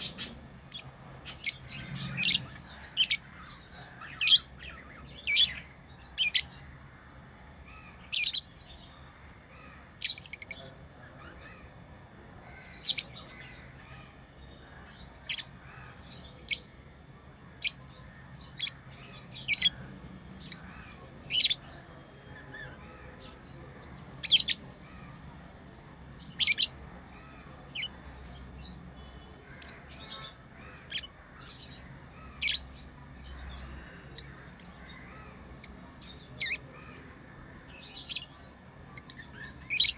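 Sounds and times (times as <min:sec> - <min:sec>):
lovebirds chirping: 0:00.0 - 0:06.8, 0:07.4 - 0:11.8, 0:12.5 - 0:25.4, 0:26.1 - 0:39.9.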